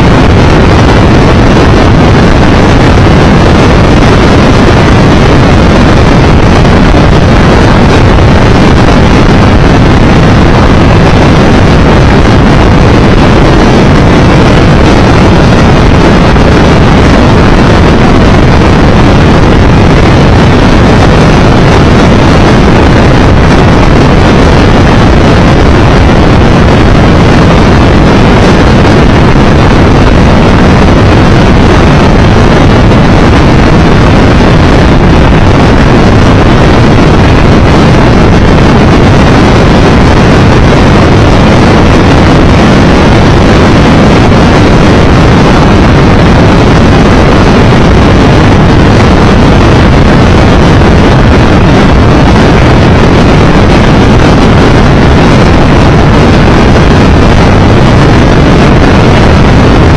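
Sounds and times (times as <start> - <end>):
wind roar on microphone: 0.0 - 59.9.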